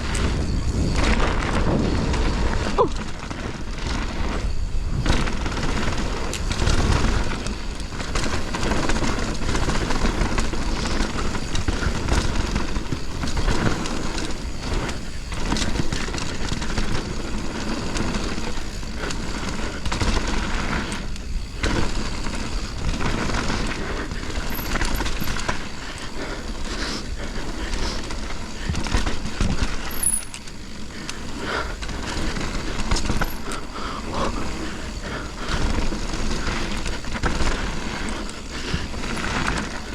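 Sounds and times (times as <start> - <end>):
bike clattering over bumps: 0.0 - 39.9
bike tyre noise on dirt: 0.0 - 39.9
wind buffeting microphone: 0.0 - 39.9.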